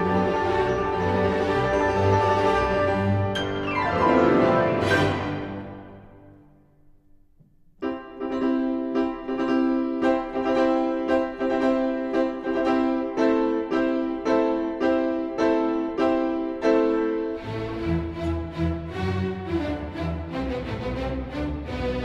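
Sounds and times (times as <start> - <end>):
piano-like keyboard notes: 0.0 - 6.9, 7.8 - 18.9.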